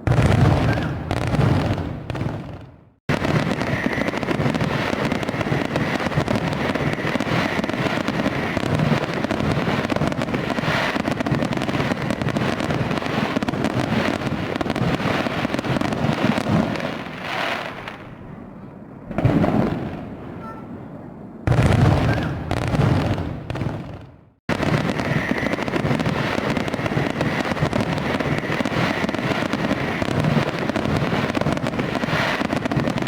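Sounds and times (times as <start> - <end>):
fireworks crackling: 0.0 - 18.1, 21.5 - 33.0.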